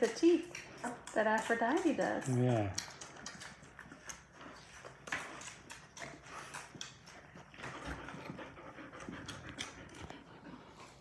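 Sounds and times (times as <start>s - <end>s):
dog panting: 0.0s - 11.0s
puppies scuffling and snuffling: 0.0s - 11.0s.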